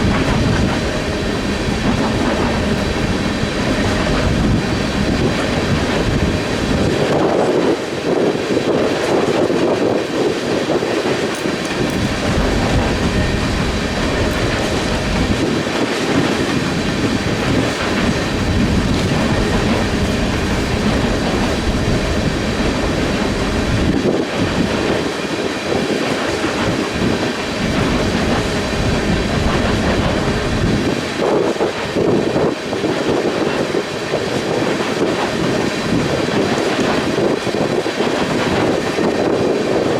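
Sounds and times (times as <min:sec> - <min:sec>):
freight train rolling past: 0:00.0 - 0:39.9
wind buffeting microphone: 0:00.0 - 0:39.9.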